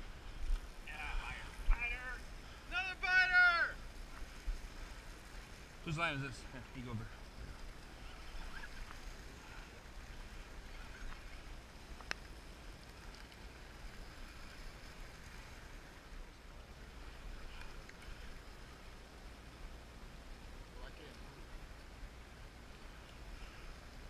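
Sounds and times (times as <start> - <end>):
boat engine rumble: 0.0 - 24.0
water and wind noise: 0.0 - 24.0.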